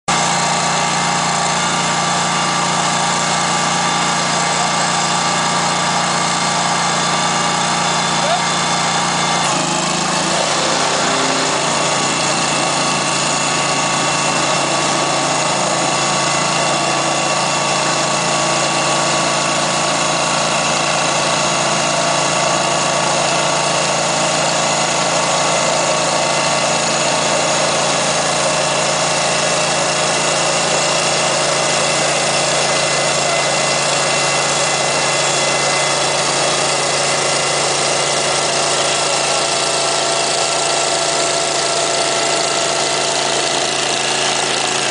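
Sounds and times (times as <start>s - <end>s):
digging machine engine running: 0.1s - 44.9s.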